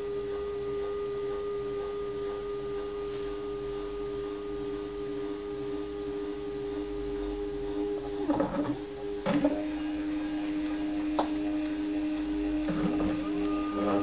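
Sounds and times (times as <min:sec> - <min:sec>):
stepper motor whine: 0:00.0 - 0:14.0.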